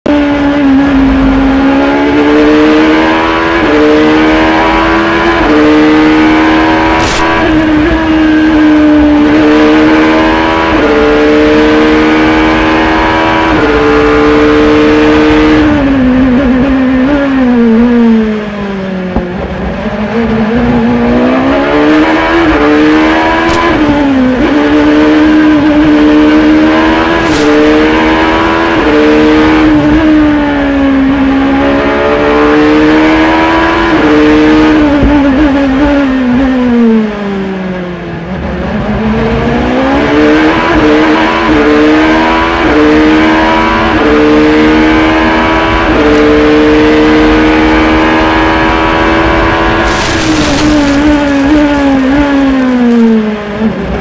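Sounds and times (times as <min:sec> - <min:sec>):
racing engine revving through gears: 0:00.0 - 0:54.0.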